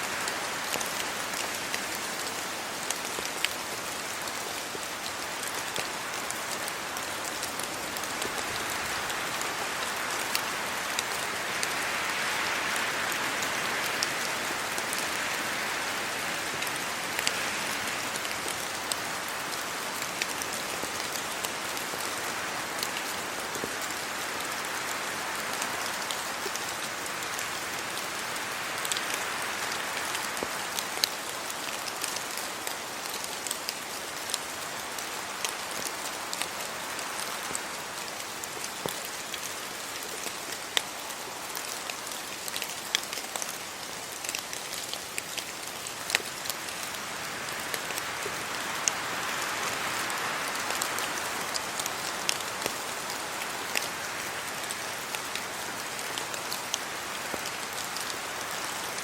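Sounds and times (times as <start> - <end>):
rain on leaves and road: 0.0 - 59.0
wind in trees: 0.0 - 59.0.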